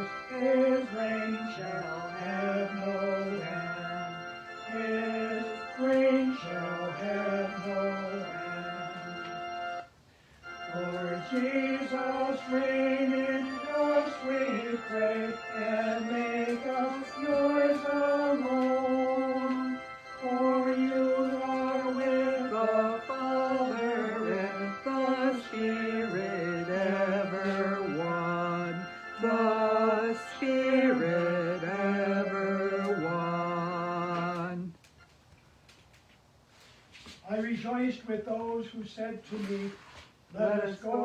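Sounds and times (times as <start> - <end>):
hymn singing: 0.0 - 35.0, 37.2 - 41.0
organ chords: 0.0 - 35.1.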